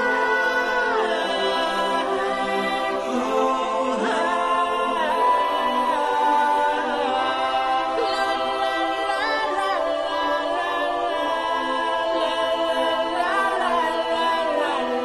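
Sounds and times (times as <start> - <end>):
a cappella choir singing: 0.0 - 15.0.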